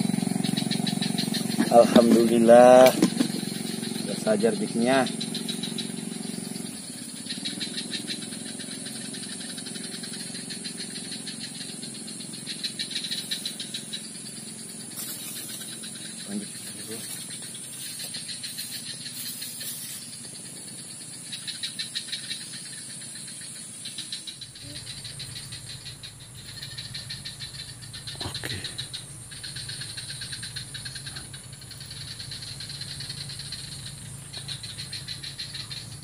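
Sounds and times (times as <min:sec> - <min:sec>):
high-pitched rattling animal calls: 0:00.0 - 0:36.0
steady low hum: 0:00.0 - 0:36.0.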